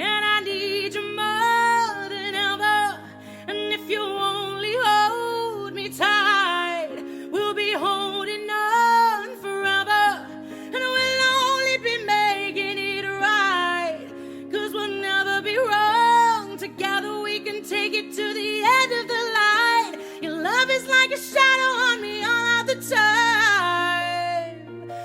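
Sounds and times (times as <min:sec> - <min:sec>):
woman singing: 0:00.0 - 0:25.0.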